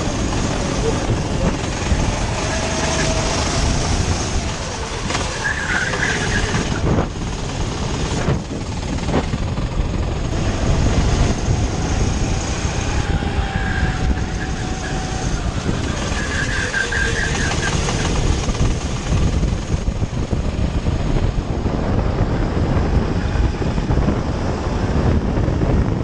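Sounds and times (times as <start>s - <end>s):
go-kart engine running: 0.0s - 26.0s
wind rush: 0.0s - 26.0s.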